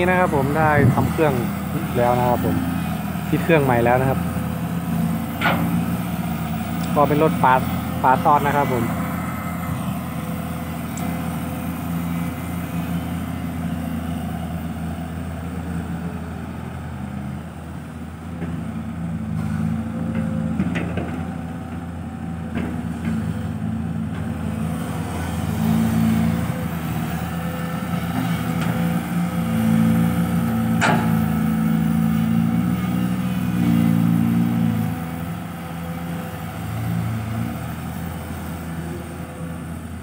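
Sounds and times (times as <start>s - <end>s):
excavator digging sand: 0.0s - 17.3s, 19.3s - 40.0s
excavator diesel engine: 0.0s - 40.0s.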